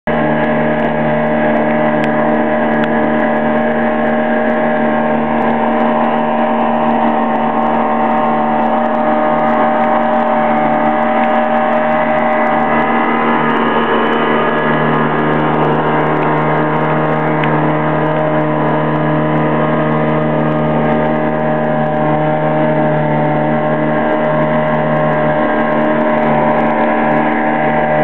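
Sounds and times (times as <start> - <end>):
motorboat engine droning: 0.0 - 28.0
water rushing past hull: 0.1 - 28.0.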